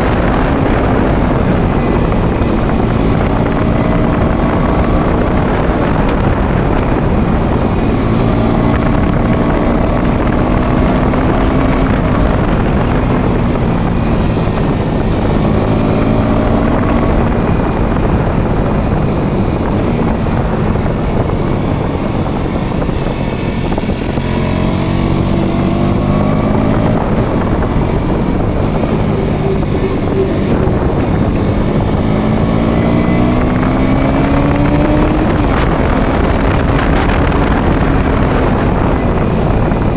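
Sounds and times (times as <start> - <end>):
motorcycle engine accelerating: 0.0 - 39.9
wind on microphone: 0.0 - 39.9.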